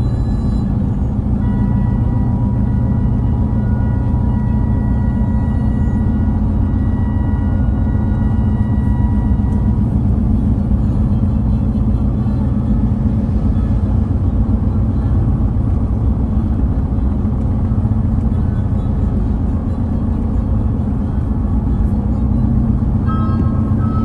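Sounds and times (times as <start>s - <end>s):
car driving rumble: 0.0s - 24.0s.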